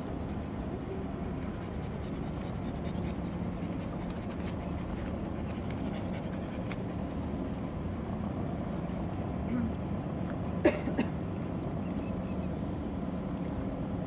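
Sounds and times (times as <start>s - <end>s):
ship engine low rumble: 0.0s - 14.0s.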